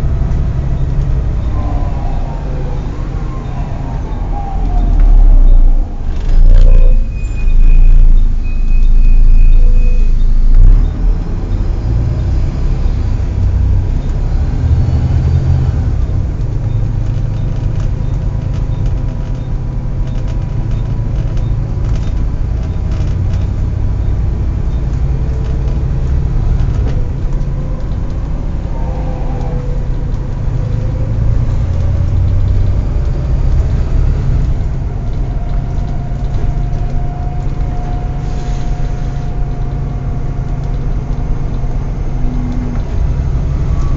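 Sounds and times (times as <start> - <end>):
lower whine: 0.0 - 17.2, 23.1 - 43.9
bus diesel engine rumbling: 0.0 - 43.9.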